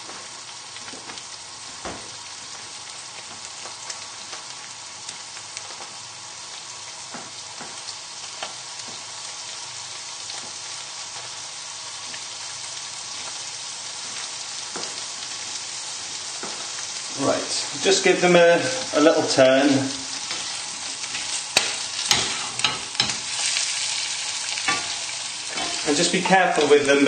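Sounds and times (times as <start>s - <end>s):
livers sizzling in butter: 0.0s - 27.0s.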